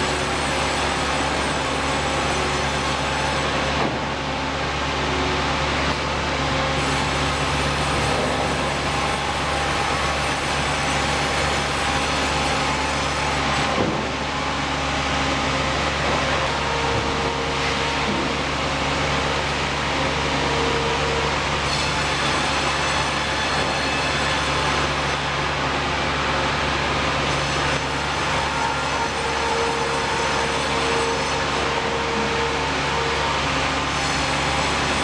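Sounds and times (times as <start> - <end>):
sawmill machinery humming: 0.0 - 35.0.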